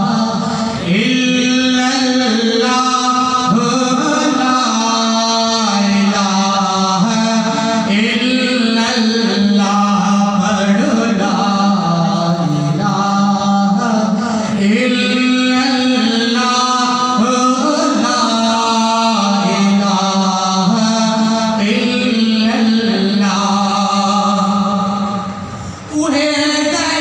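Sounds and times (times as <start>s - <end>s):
man chanting into a microphone: 0.0s - 27.0s.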